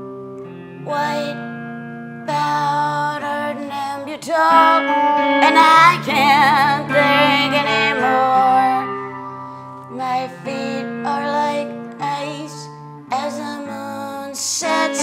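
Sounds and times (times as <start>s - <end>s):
electric guitar strumming: 0.0s - 15.0s
woman singing: 0.8s - 1.6s, 2.2s - 15.0s.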